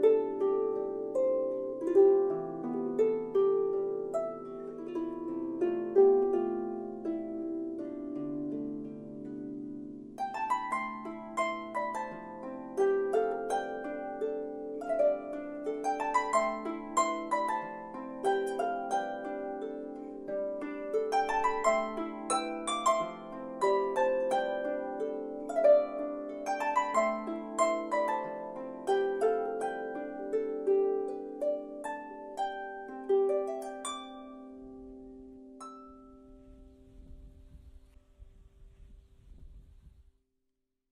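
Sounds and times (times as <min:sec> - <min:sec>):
harp melody: 0:00.0 - 0:37.5.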